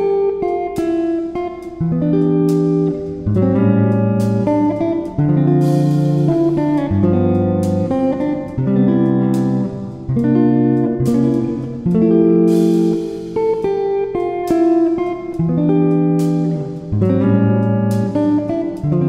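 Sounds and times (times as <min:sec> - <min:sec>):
guitar plucking notes and chords: 0:00.0 - 0:19.0.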